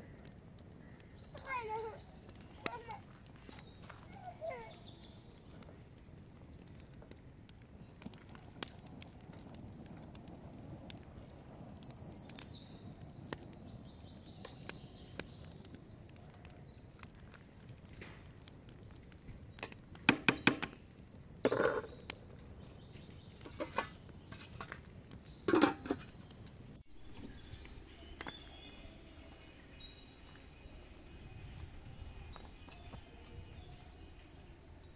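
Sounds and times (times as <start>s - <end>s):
birds chirping faintly: 0.0s - 34.9s.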